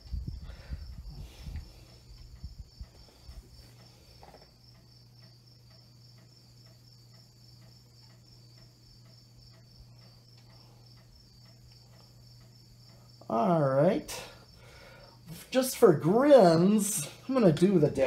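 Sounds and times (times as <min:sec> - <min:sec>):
fan blade ticking: 0:00.0 - 0:18.0.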